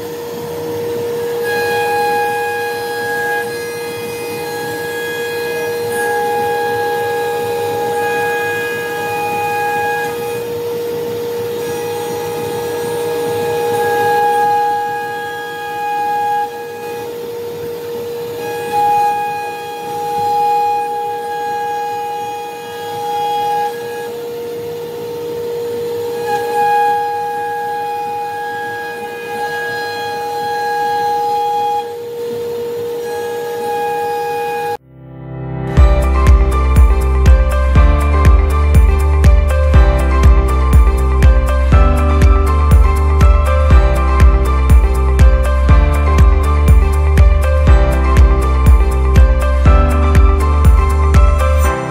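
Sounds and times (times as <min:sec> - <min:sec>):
router bit cutting wood: 0:00.0 - 0:34.8, 0:36.0 - 0:51.9
router spindle whining: 0:00.0 - 0:34.8, 0:35.8 - 0:51.9
music of long held notes: 0:00.0 - 0:51.9.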